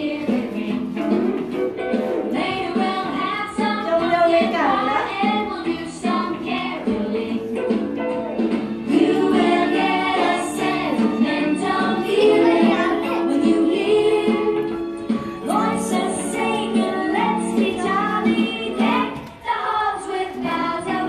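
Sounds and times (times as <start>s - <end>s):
group of voices singing: 0.0s - 0.9s, 2.3s - 7.6s, 8.8s - 21.0s
song playing: 0.0s - 19.2s.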